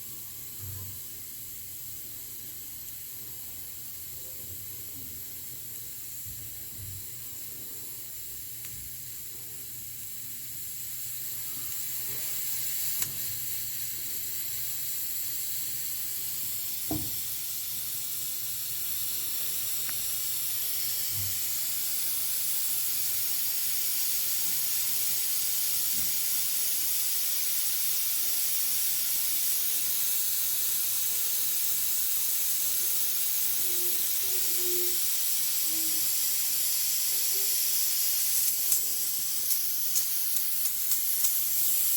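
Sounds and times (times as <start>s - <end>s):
pressure cooker hissing steam: 0.0s - 41.9s.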